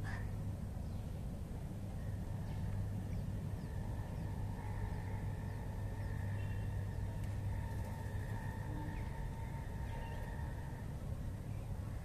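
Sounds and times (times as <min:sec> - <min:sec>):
faint continuous hum: 0:00.0 - 0:12.0
outdoor background rumble: 0:00.0 - 0:12.0
distant bird chirps: 0:02.0 - 0:12.0.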